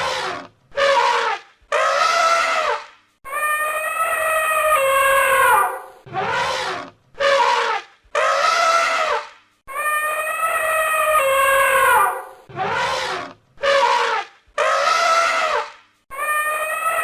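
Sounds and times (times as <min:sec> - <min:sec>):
elephant trumpeting: 0:00.0 - 0:17.0.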